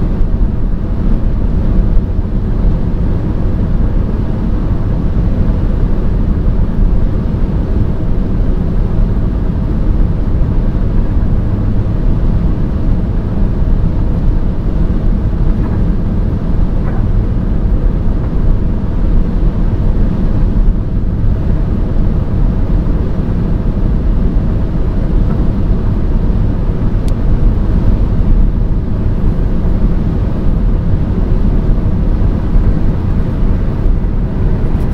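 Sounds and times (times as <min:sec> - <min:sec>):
car driving rumble: 0:00.0 - 0:34.9.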